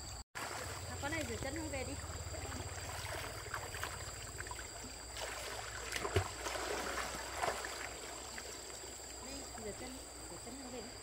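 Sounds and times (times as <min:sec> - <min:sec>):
stream water running: 0:00.0 - 0:11.0
people splashing in water: 0:00.4 - 0:09.7.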